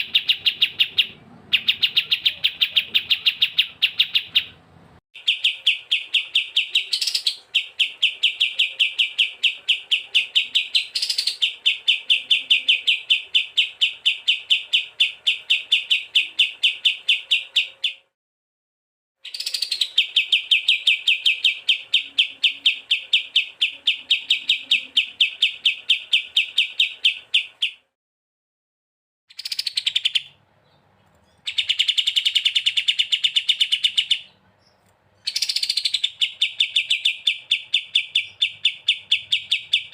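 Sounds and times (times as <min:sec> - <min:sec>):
songbird sharp chirping: 0:00.0 - 0:18.2, 0:19.2 - 0:28.0, 0:29.3 - 0:39.9.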